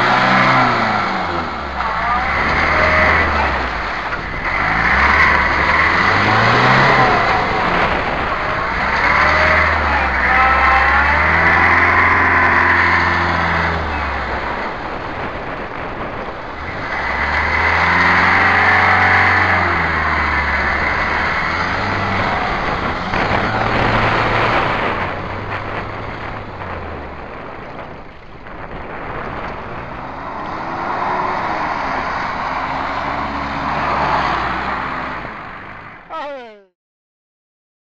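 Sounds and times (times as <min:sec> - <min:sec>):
pickup engine revving hard: 0:00.0 - 0:26.7, 0:28.9 - 0:35.8
car engine revving up and down: 0:00.0 - 0:36.7.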